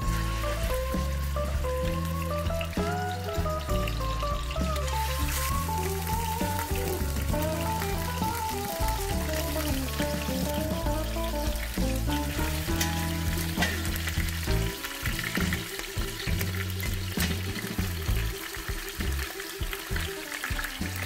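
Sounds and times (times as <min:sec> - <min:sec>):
background music: 0:00.0 - 0:21.0
meat sizzling in hot oil: 0:00.0 - 0:21.0.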